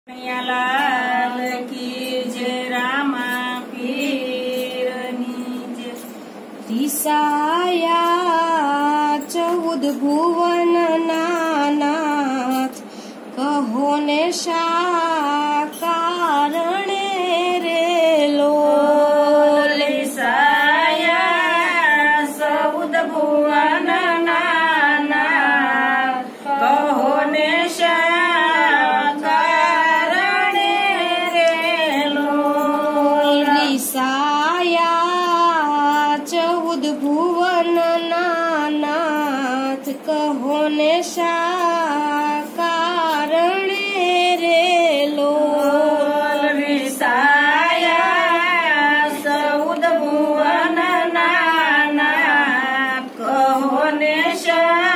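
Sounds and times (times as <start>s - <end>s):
woman singing unaccompanied: 0.1s - 54.9s.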